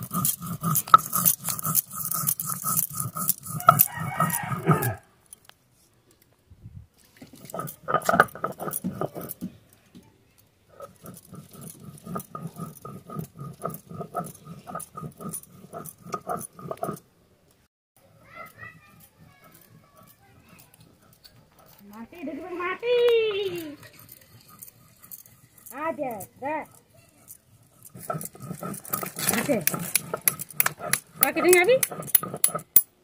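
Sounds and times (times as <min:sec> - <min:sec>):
stone grinding on stone slab: 0:00.0 - 0:05.0, 0:07.2 - 0:09.5, 0:10.7 - 0:17.0, 0:18.4 - 0:33.0.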